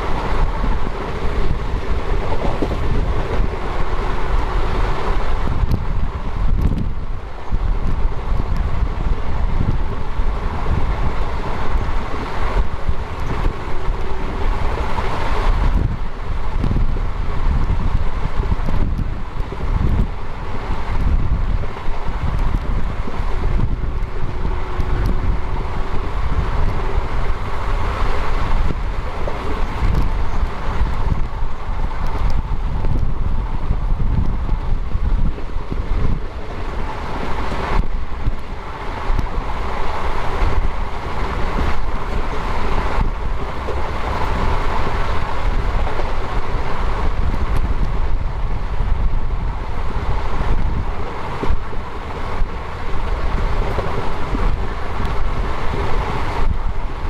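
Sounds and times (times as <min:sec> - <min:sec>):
train wheels rumbling on rail: 0:00.0 - 0:57.0
wind buffeting microphone: 0:00.0 - 0:57.0.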